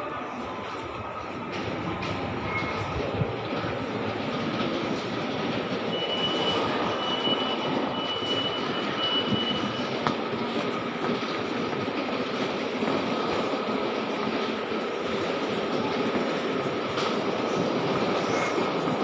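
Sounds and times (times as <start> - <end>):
busy station din: 0.0 - 19.0.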